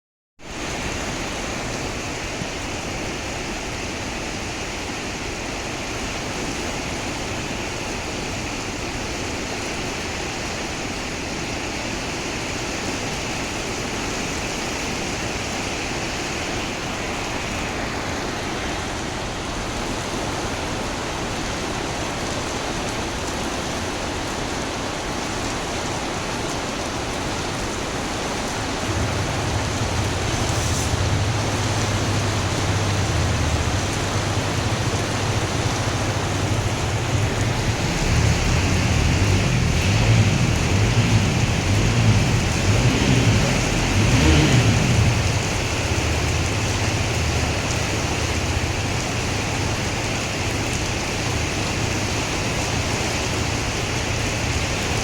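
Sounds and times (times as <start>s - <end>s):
steady rain hissing: 0.4s - 55.0s.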